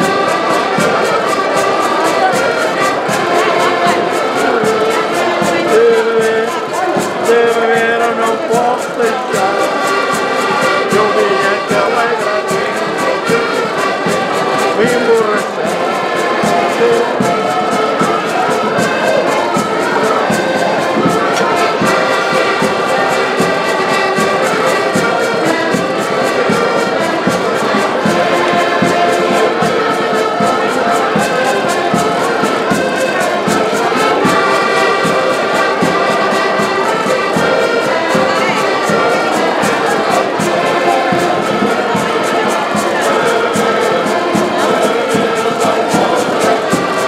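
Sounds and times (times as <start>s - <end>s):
accordions playing a tune: 0.0s - 47.0s
steady beat: 0.0s - 47.0s.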